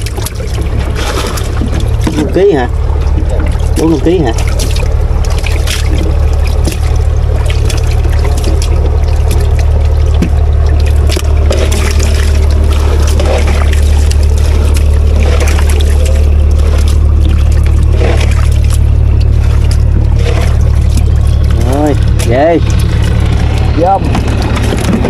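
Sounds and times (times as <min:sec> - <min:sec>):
loud low rumble: 0:00.0 - 0:25.0
water poured splashing: 0:00.0 - 0:25.0.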